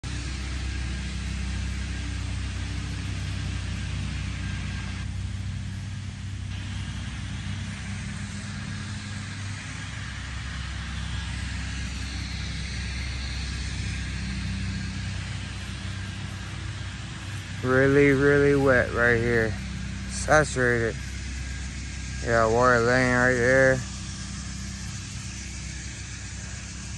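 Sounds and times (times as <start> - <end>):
engine humming steadily: 0.0 - 26.9.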